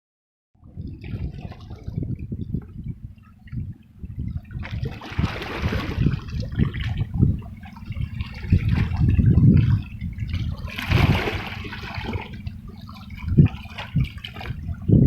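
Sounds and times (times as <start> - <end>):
low rumbling: 0.6 - 15.0
river water sloshing and gurgling: 0.6 - 15.0
water splashing: 0.7 - 2.7, 4.2 - 15.0.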